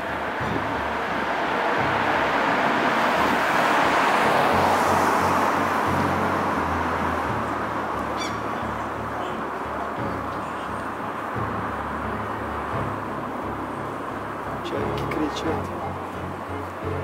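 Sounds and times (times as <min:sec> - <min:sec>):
road vehicle passing: 0:00.0 - 0:17.0.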